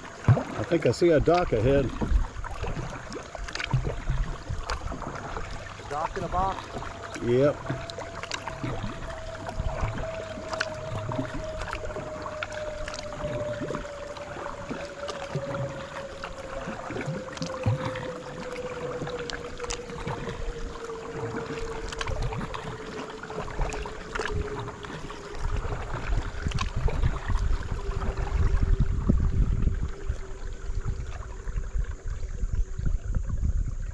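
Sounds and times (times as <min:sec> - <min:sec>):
paddle splashing in water: 0:00.0 - 0:33.6
low rumble: 0:00.0 - 0:33.9
hum falling in pitch: 0:02.8 - 0:33.6.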